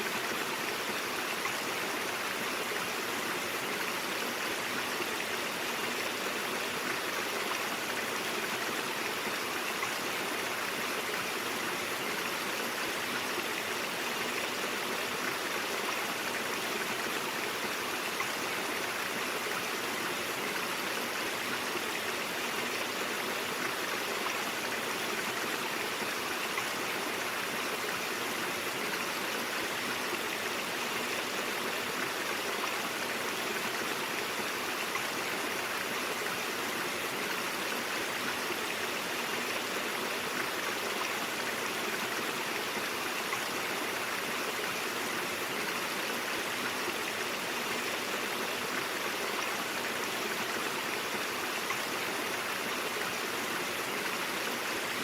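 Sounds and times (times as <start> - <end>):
water running over rocks: 0.0 - 55.0.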